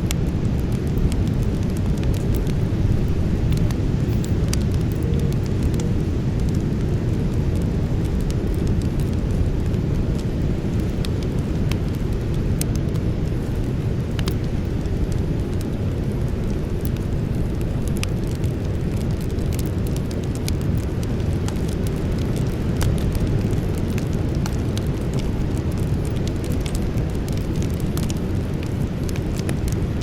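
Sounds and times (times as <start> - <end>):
burning wood crackling and popping: 0.0 - 30.0
low rumble of flame: 0.0 - 30.0.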